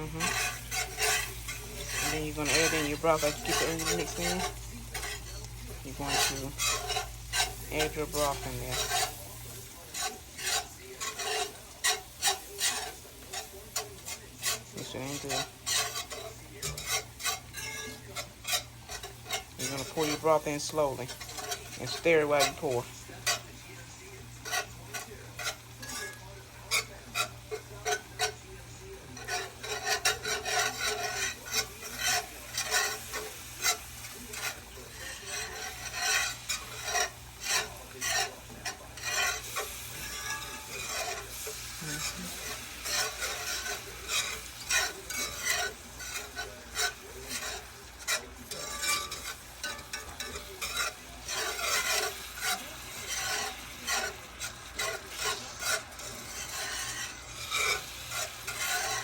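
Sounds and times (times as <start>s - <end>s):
spoon stirring and scraping a pan: 0.0s - 59.0s.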